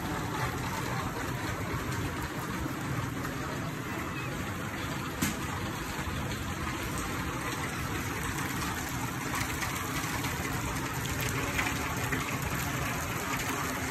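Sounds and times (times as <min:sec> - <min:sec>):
rain falling: 0:00.0 - 0:13.9.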